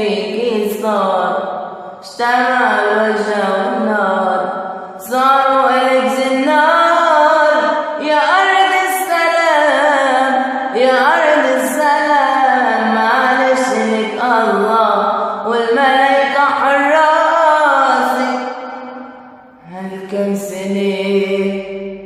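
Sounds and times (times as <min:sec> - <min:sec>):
person singing wordless melody: 0:02.1 - 0:19.0, 0:19.6 - 0:22.0.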